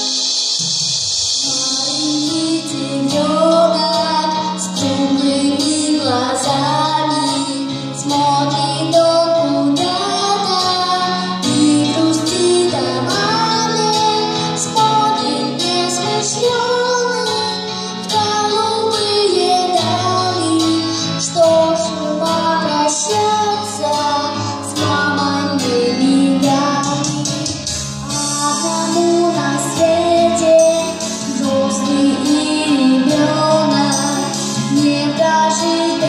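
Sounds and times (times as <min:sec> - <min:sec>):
instrumental accompaniment: 0:00.0 - 0:36.0.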